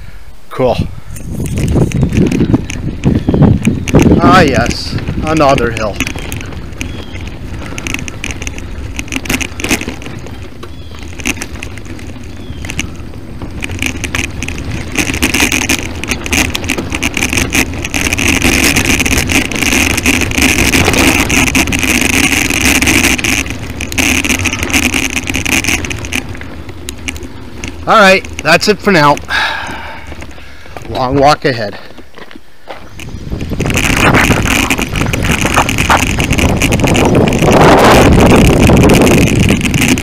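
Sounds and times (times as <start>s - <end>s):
bicycle rattling on rough trail: 0.0s - 40.0s.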